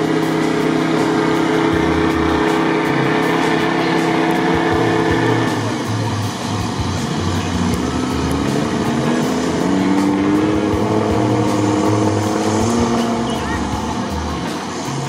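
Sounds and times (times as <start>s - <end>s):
car engine revving hard: 0.0s - 15.0s
tyres churning mud and water: 0.0s - 15.0s.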